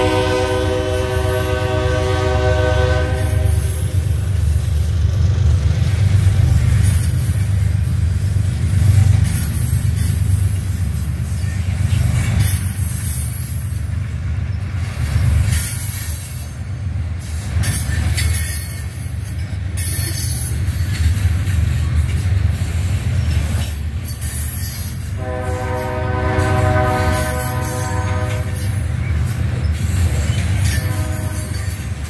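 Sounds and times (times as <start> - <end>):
steel wheels rumbling on rails: 0.0 - 32.0.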